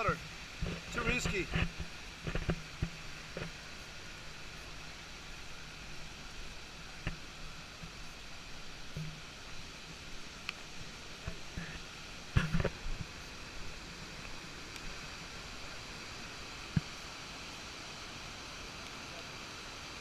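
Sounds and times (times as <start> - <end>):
rushing water hiss: 0.0 - 20.0.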